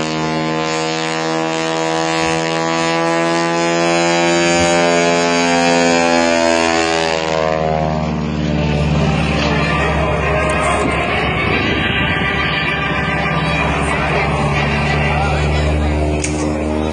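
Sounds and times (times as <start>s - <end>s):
propeller aircraft flying past: 0.0s - 16.9s.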